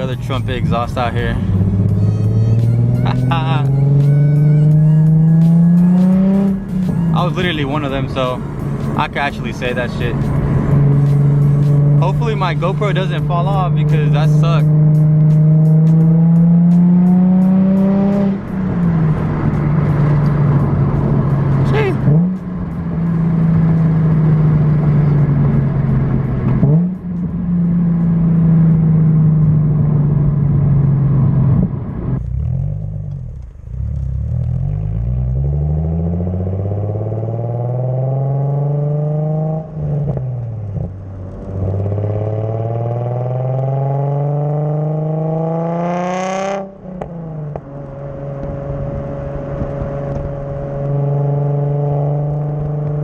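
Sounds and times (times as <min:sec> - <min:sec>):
car engine through exhaust: 0:00.0 - 0:53.0.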